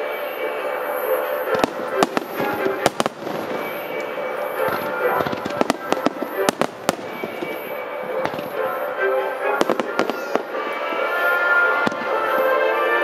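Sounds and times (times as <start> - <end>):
music with sustained notes: 0.0 - 13.0
firework shells bursting: 1.5 - 12.6.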